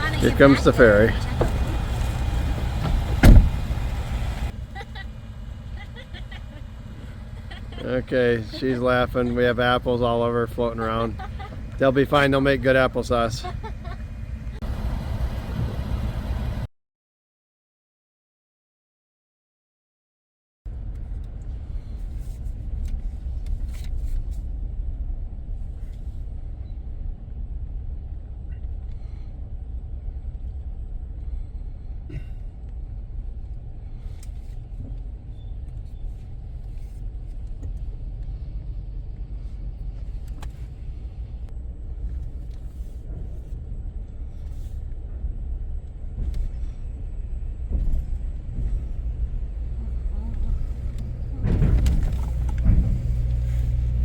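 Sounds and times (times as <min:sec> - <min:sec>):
low vehicle rumble: 0:00.0 - 0:16.7, 0:20.7 - 0:54.0.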